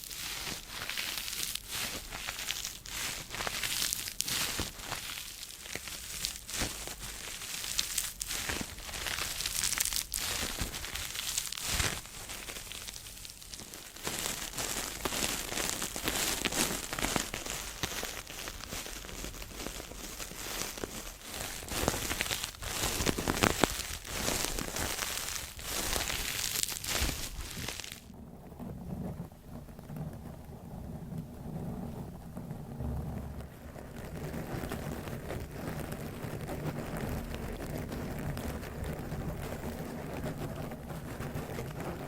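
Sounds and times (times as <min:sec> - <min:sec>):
crinkling and crackling: 0:00.0 - 0:42.0.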